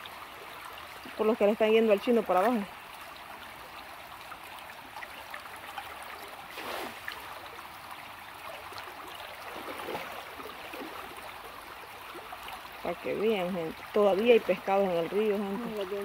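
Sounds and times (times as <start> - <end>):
babbling river water: 0.0 - 16.0
water gurgle: 0.0 - 16.0.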